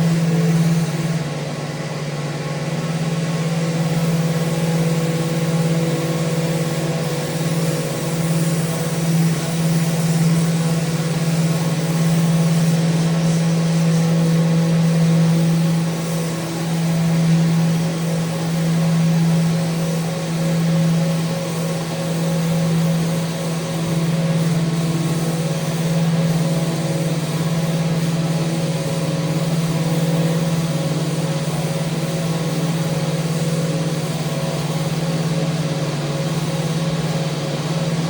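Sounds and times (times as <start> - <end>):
power sander on wood: 0.0 - 38.0.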